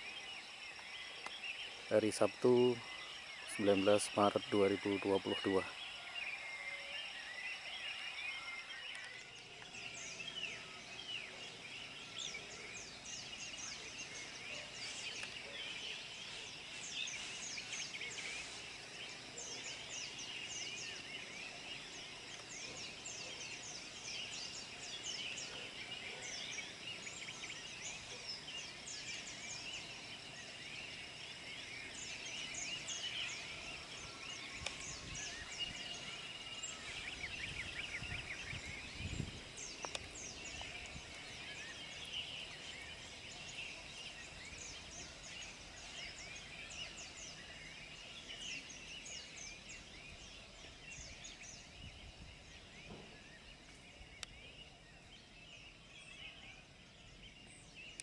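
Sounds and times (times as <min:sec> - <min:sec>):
chorus of birds chirping: 0:00.0 - 0:58.0.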